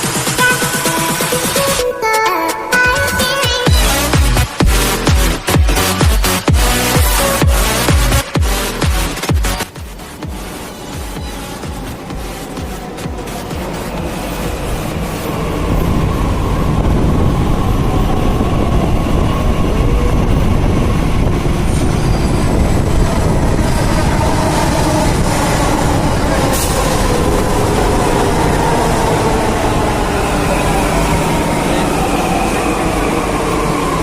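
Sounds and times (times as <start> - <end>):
metro train rumble and motor whine: 0.0 - 34.0.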